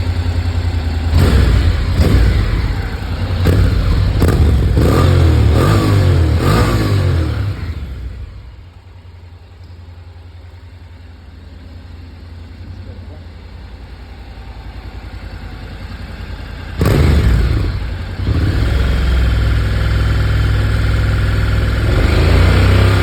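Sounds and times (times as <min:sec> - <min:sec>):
motorcycle engine revving: 0:00.0 - 0:09.0, 0:12.4 - 0:23.0
motorcycle engine idling: 0:00.0 - 0:23.0.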